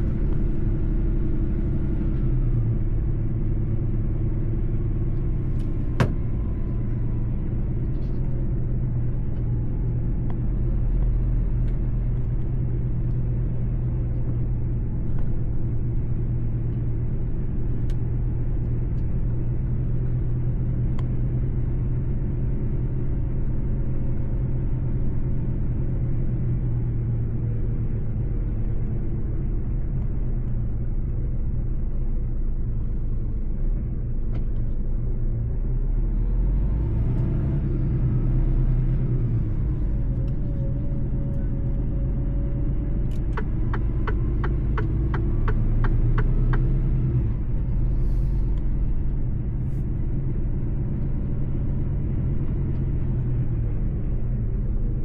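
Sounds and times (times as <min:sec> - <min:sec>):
road noise: 0:00.0 - 0:55.0
truck engine low rumble: 0:00.0 - 0:55.0.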